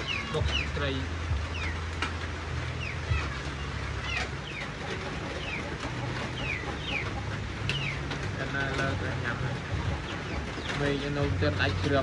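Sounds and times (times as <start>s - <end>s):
chicks peeping: 0.0s - 12.0s
low steady hum: 0.0s - 12.0s.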